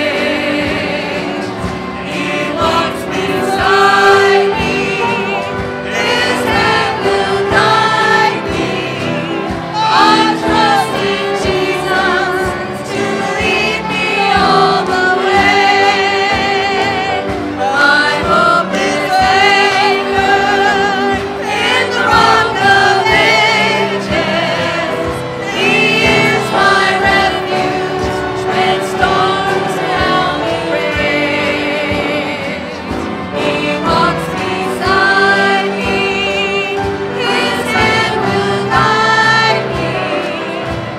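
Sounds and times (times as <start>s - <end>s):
gospel singing: 0.0s - 40.9s.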